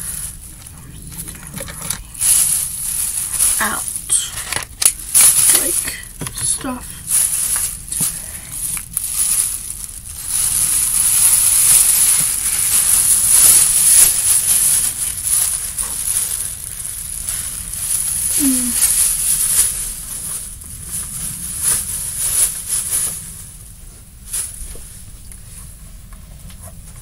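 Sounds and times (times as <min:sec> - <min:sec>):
plastic bag rustling: 0:00.0 - 0:26.0.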